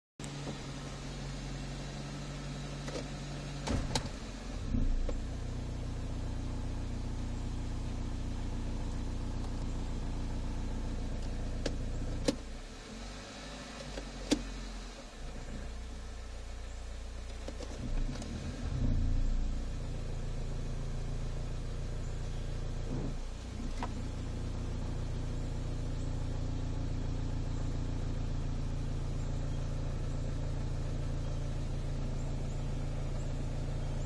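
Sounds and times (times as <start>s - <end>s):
car engine idling hum: 0.2s - 34.0s.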